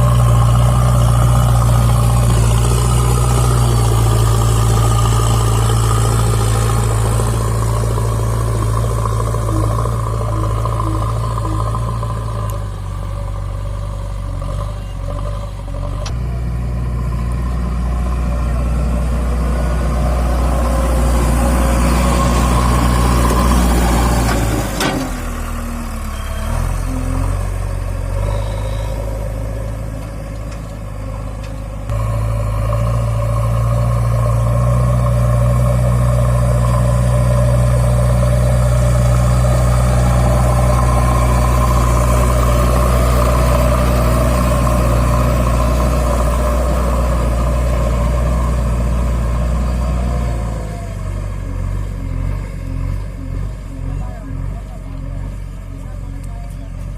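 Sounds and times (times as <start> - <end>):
diesel engine running and revving: 0.0 - 56.9.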